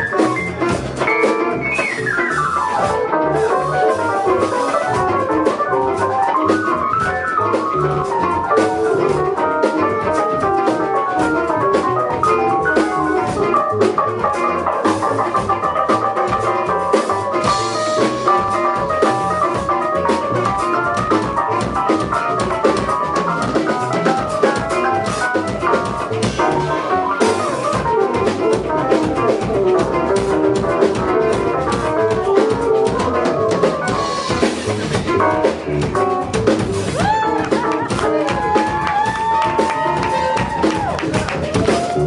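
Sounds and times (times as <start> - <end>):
melodic instruments: 0.0 - 40.5
drum kit beat: 0.0 - 42.0.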